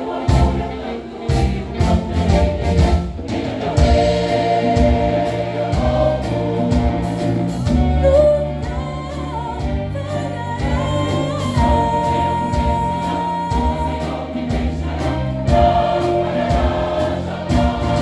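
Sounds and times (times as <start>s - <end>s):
band accompaniment: 0.0s - 18.0s
gospel choir singing: 0.0s - 18.0s
steady drum beat: 0.0s - 18.0s.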